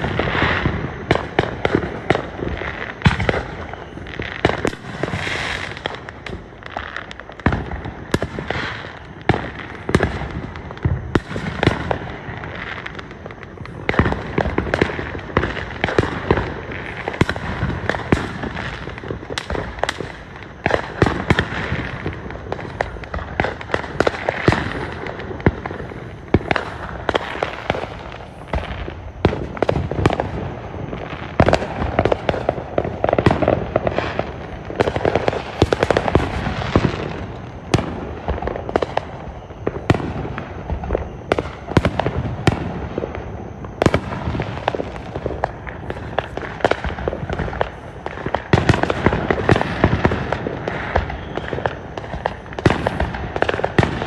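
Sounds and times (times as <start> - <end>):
fireworks bangs and pops: 0.0 - 54.0
fireworks crackle: 0.0 - 54.0.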